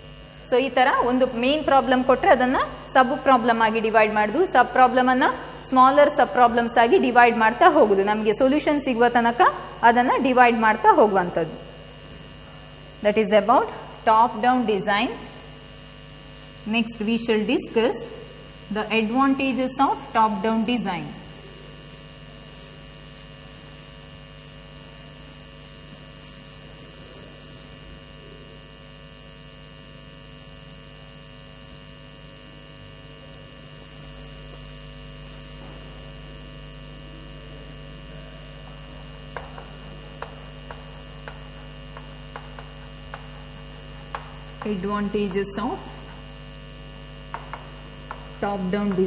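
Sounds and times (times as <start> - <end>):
electrical mains hum: 0.0 - 49.0.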